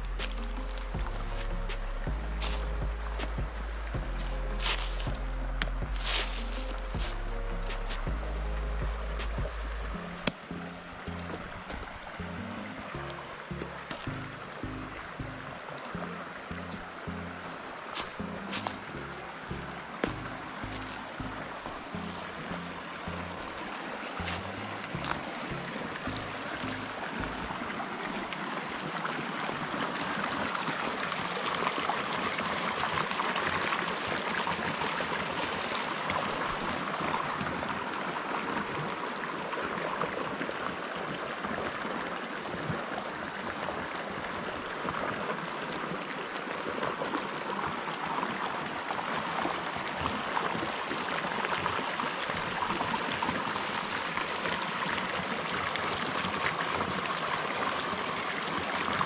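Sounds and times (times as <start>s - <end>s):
creek water rushing and gurgling: 0.0s - 59.0s.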